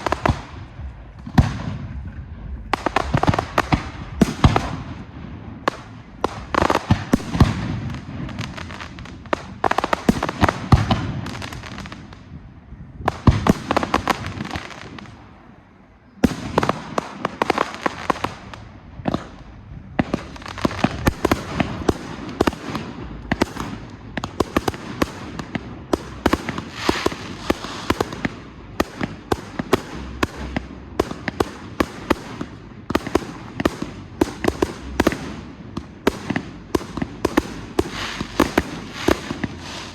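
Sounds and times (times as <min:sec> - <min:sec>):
rapid firework cracks: 0:00.0 - 0:01.9, 0:02.8 - 0:12.3, 0:13.1 - 0:15.2, 0:20.0 - 0:39.9
fireworks bangs and crackle: 0:00.0 - 0:39.9.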